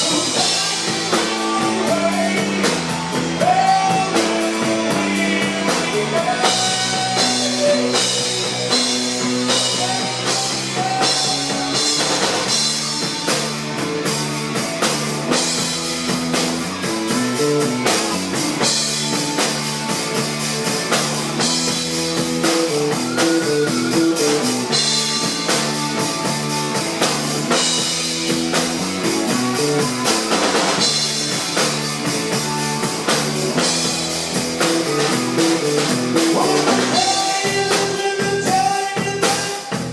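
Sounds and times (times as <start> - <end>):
drums: 0.0 - 39.9
electric guitar: 0.0 - 39.9.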